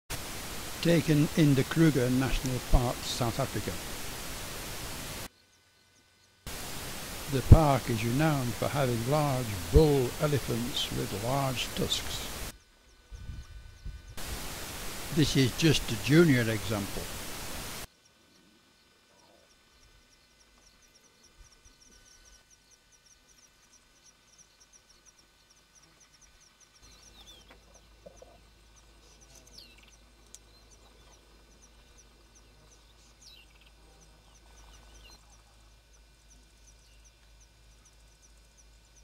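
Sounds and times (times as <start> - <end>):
birds chirping: 0.1 - 12.5, 13.1 - 39.0.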